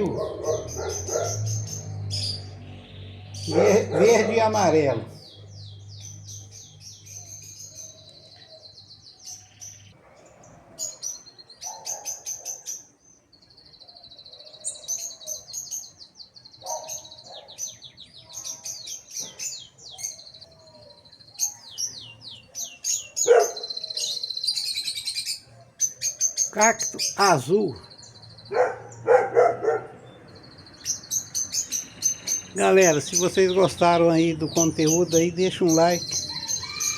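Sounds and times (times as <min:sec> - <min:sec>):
lower louder bird calls: 0:00.0 - 0:36.9
small birds chirping and trilling: 0:00.0 - 0:36.9.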